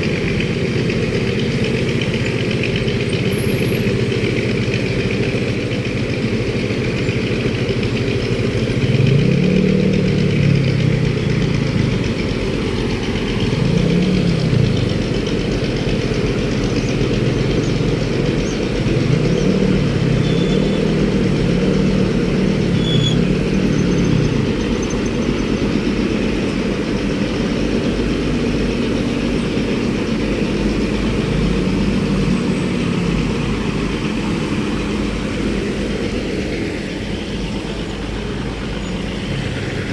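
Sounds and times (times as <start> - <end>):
low traffic rumble: 0.0 - 39.9
vehicle engines running: 0.0 - 39.9.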